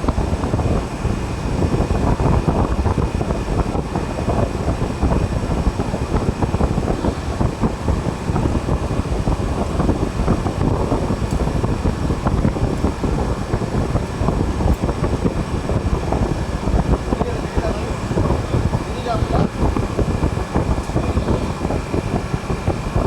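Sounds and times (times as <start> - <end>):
faint high whine: 0.0 - 23.0
refrigeration fan rushing: 0.0 - 23.0.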